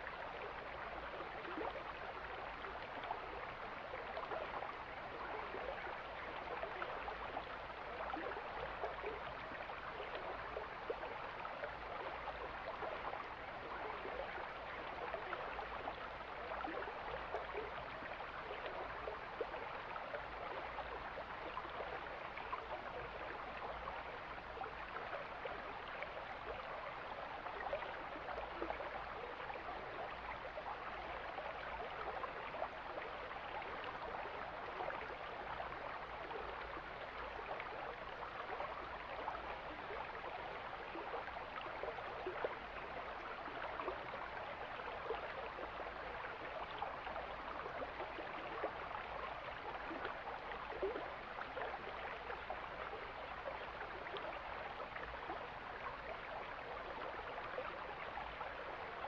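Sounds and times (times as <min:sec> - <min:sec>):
mountain stream flowing: 0:00.0 - 0:59.0.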